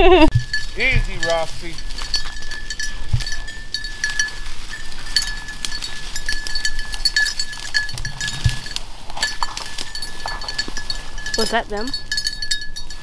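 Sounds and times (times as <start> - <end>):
brush rustling: 0.0 - 13.0
dog collar bell ringing: 0.3 - 13.0.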